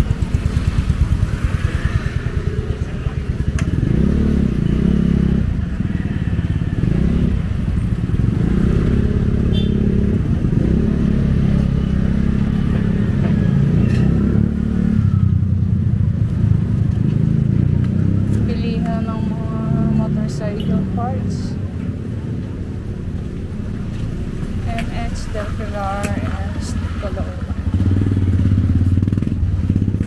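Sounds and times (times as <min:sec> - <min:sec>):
motorcycle engines revving: 0:00.0 - 0:30.0
street traffic: 0:00.0 - 0:30.0.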